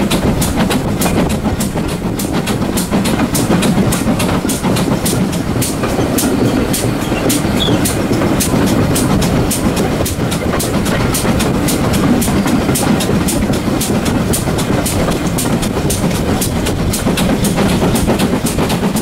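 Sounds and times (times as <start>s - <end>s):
steam locomotive chuffing beats: 0.0s - 19.0s
wheels rumbling on track: 0.0s - 19.0s.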